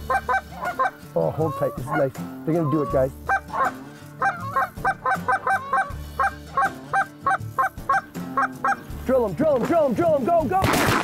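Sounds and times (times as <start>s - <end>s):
goose honks: 0.0s - 8.9s.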